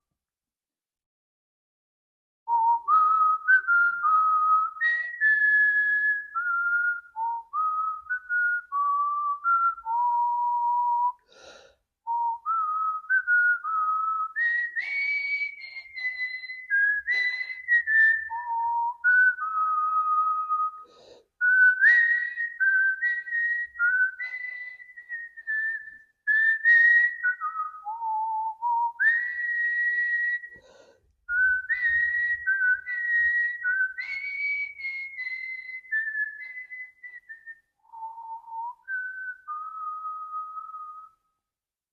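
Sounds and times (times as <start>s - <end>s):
man whistling a melody: 2.5s - 41.5s.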